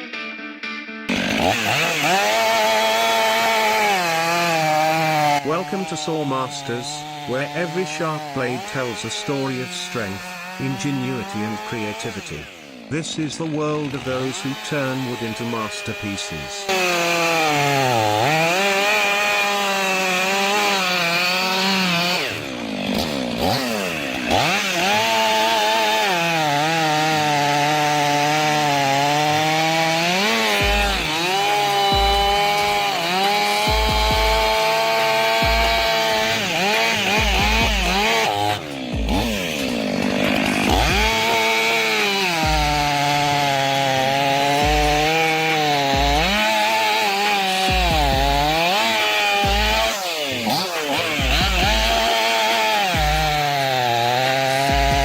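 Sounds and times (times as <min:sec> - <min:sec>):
chainsaw cutting wood: 0:01.1 - 0:55.0.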